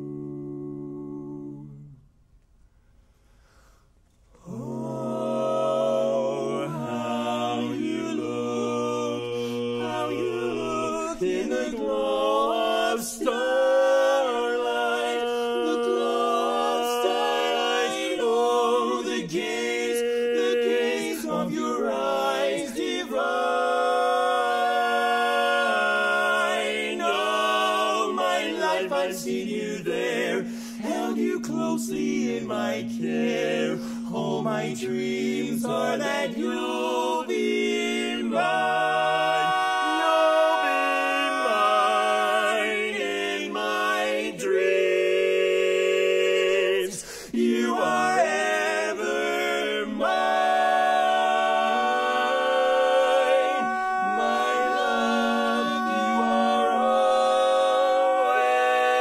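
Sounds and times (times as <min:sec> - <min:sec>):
men singing a cappella harmony: 0:00.0 - 0:02.0, 0:04.4 - 0:59.0.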